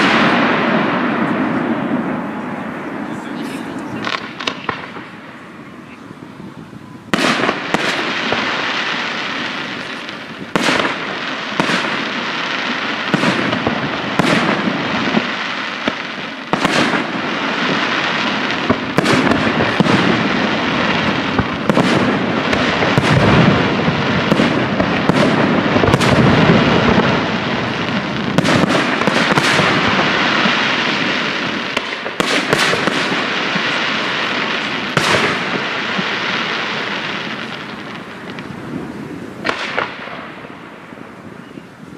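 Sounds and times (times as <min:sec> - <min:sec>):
rumbling explosions and crackle: 0:00.0 - 0:05.9, 0:06.8 - 0:41.9
firework shells bursting: 0:03.8 - 0:05.4, 0:07.1 - 0:38.6, 0:39.4 - 0:40.9.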